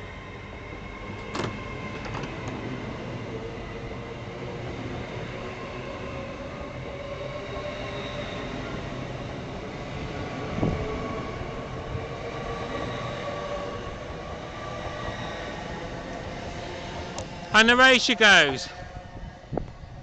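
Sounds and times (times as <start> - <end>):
electric train rumble: 0.0 - 20.0.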